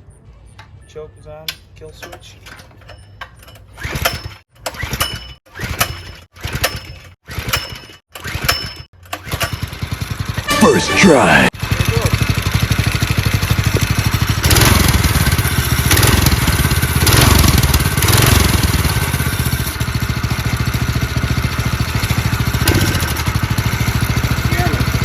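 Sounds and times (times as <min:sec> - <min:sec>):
small engine revving and idling: 0:03.8 - 0:10.5, 0:11.6 - 0:25.0.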